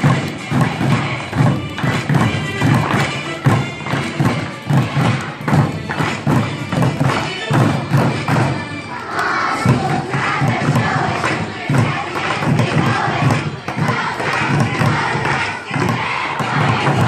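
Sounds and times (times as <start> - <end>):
drumsticks beating plastic buckets: 0.0 - 17.0.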